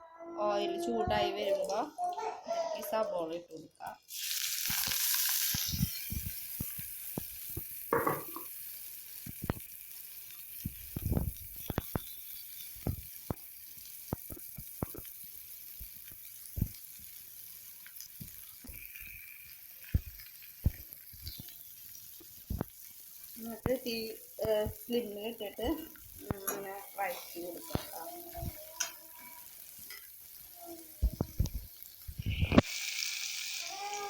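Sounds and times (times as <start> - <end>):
onions sizzling in hot oil: 0.6 - 34.0.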